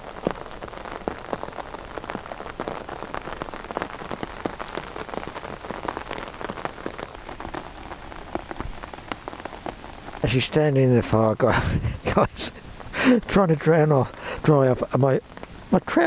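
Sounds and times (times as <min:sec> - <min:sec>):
rain tapping on an umbrella: 0:00.0 - 0:16.0.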